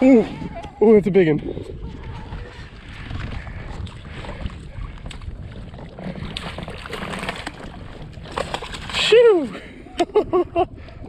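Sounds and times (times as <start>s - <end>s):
water moving around kayak: 0.0s - 11.0s
wind rumbling on microphone: 0.0s - 11.0s.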